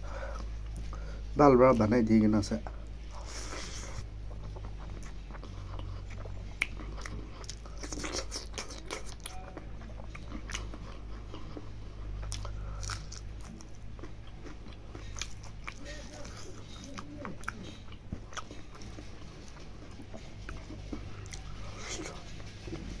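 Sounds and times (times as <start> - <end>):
steady low hum: 0.0 - 23.0
person chewing wetly: 2.7 - 23.0.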